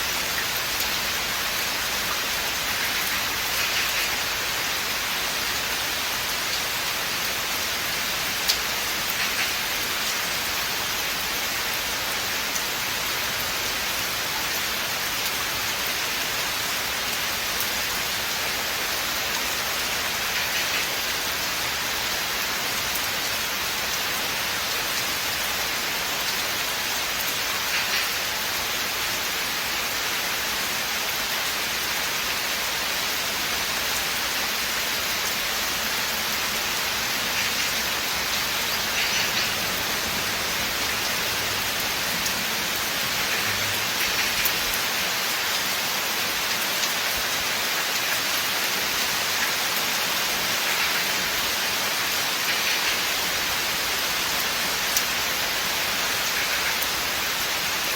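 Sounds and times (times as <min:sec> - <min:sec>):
rain on leaves and ground: 0:00.0 - 0:57.9.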